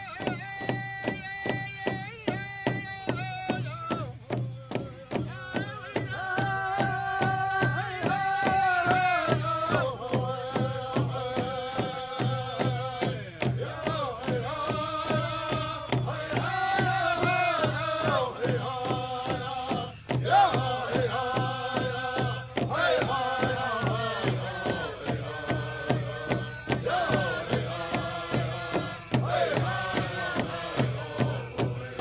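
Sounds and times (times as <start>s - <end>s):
music with drum beat: 0.0s - 32.0s.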